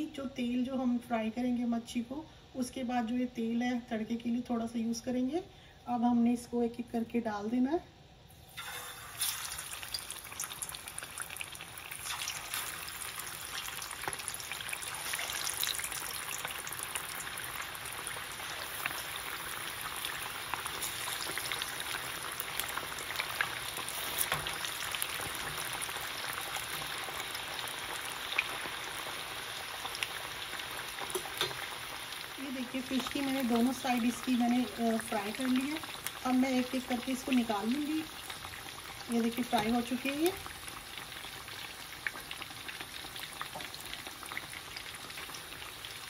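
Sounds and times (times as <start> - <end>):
fish sizzling in hot oil: 8.3 - 46.0.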